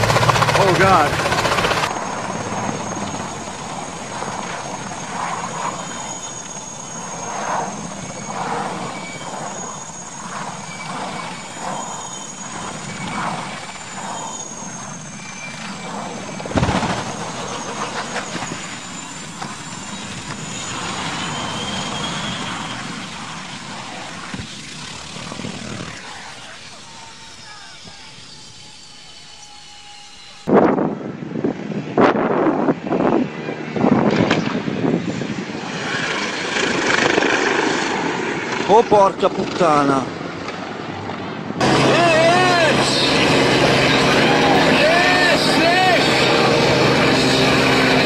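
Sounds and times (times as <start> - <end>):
helicopter rotors beating: 0.0 - 30.5, 32.8 - 48.0
helicopter turbine whine: 0.0 - 48.0.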